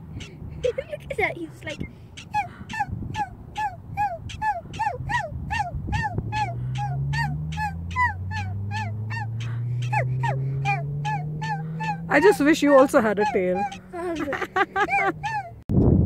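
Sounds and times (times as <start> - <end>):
prairie dog barking: 0.0 - 15.6
low hum rising in pitch: 2.2 - 15.6.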